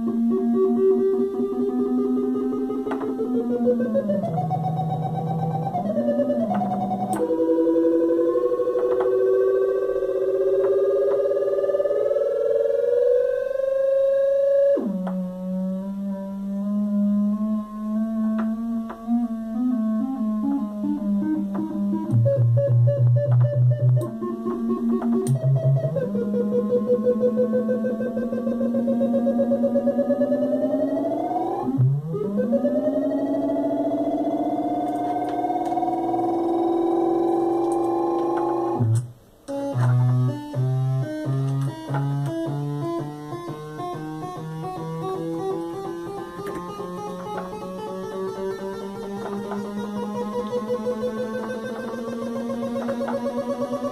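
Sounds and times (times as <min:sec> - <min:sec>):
modulated synthesizer tone: 0:00.0 - 0:53.9.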